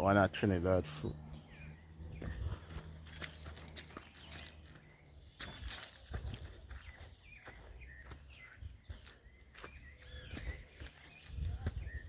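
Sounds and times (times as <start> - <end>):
birds chirping: 0.0 - 12.0
footsteps: 2.2 - 12.0.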